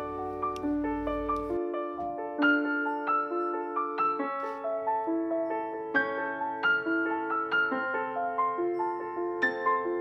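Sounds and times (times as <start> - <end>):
slow mallet or piano melody: 0.0 - 10.0.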